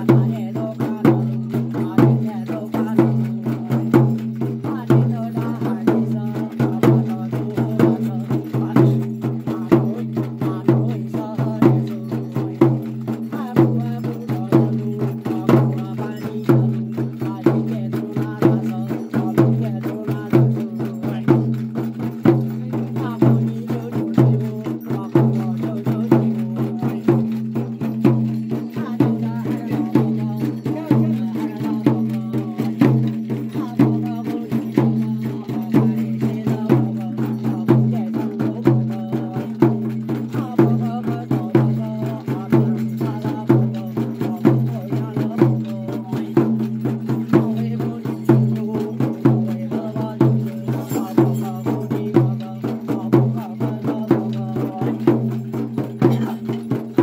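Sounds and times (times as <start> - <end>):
frame drums beaten fast: 0.0 - 57.0
man chanting: 0.0 - 57.0.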